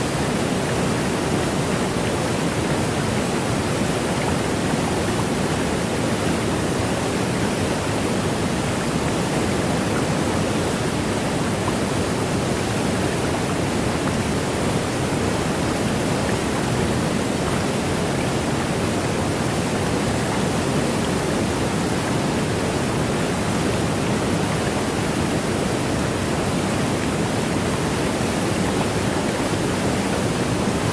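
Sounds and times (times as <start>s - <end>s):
water rushing: 0.0s - 30.9s.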